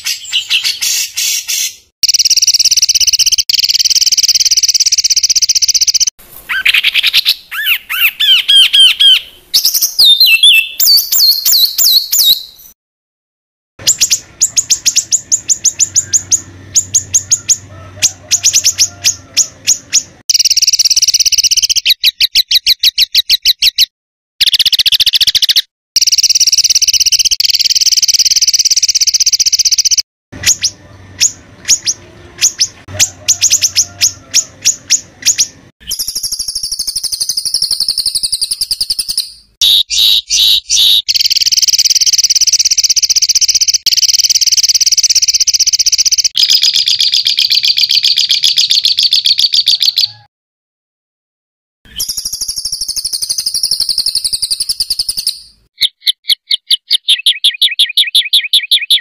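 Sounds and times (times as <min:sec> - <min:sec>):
bird sharp repeated notes: 0:00.0 - 0:12.8, 0:13.8 - 0:50.3, 0:51.9 - 0:59.0.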